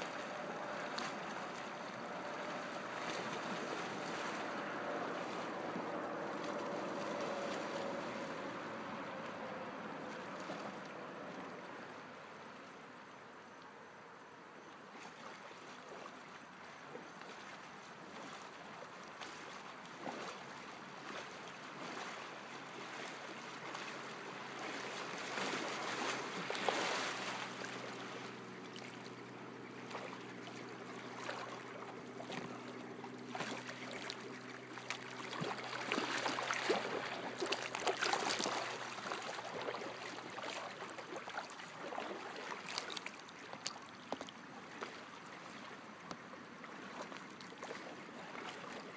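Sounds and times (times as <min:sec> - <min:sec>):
paddle blades splashing: 0:00.0 - 0:12.8, 0:14.9 - 0:48.9
faint low hum: 0:00.0 - 0:48.9
water swishing along hull: 0:00.0 - 0:48.9.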